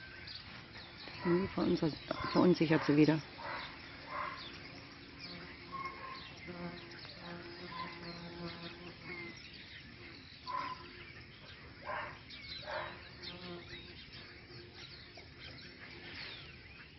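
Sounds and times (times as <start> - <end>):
birds chirping: 0.0 - 16.9
insect buzzing: 1.2 - 16.3.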